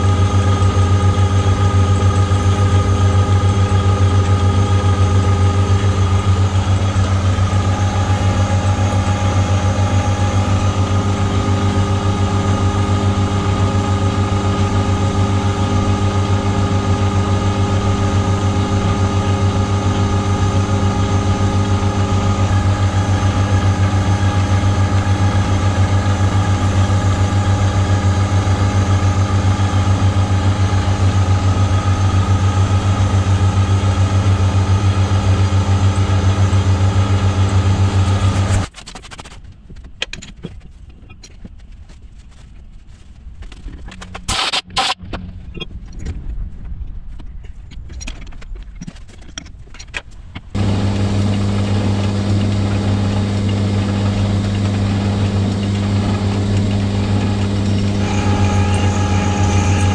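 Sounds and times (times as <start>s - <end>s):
metal lathe running: 0.0s - 38.6s, 50.6s - 59.9s.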